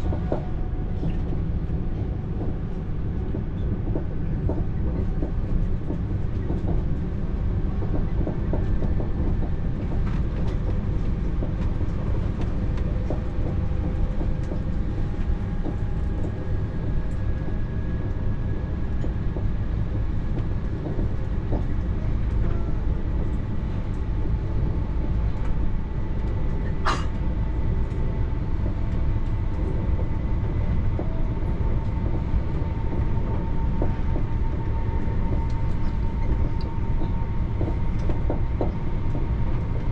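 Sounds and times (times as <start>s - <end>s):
train carriage rumble: 0.0s - 39.9s.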